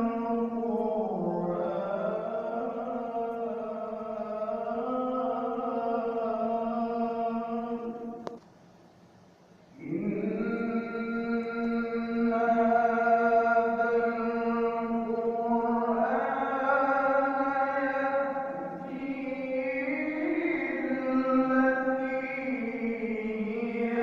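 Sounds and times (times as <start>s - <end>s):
person reciting melodically: 0.0s - 8.4s, 9.8s - 24.0s.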